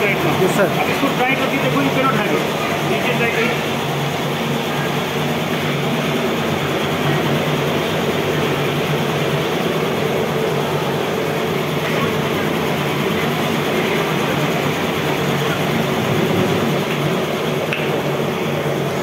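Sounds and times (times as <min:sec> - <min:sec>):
processing machinery droning: 0:00.0 - 0:19.0.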